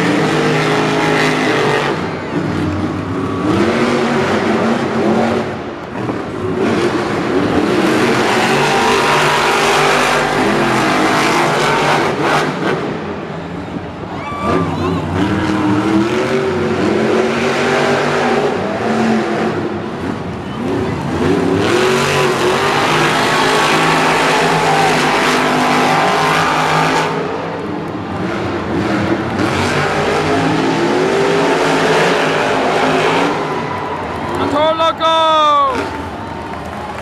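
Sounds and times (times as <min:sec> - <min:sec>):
monster truck engines revving: 0:00.0 - 0:37.0.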